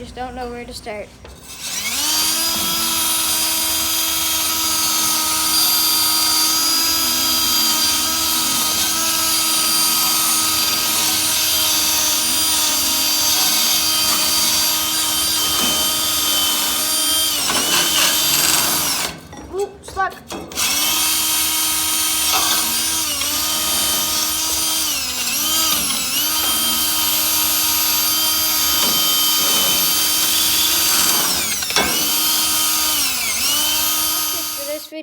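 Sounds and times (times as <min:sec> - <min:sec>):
power tool motor whine: 0:01.4 - 0:19.3, 0:20.5 - 0:35.0.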